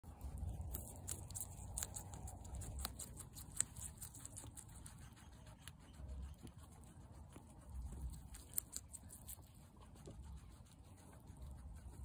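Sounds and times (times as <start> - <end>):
guinea pig chewing grape: 0.0 - 12.0.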